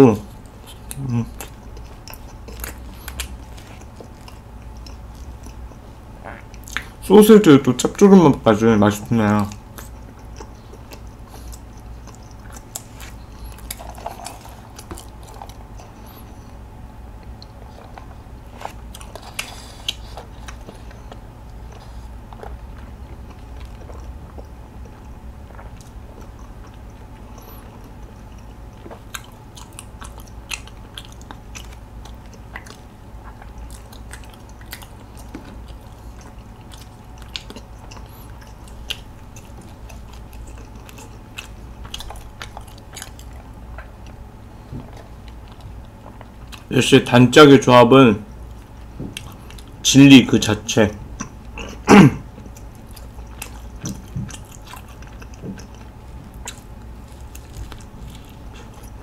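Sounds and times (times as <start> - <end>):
close chewing with mouth clicks: 0.2 - 7.1, 9.0 - 46.8, 48.3 - 49.9, 51.0 - 59.0.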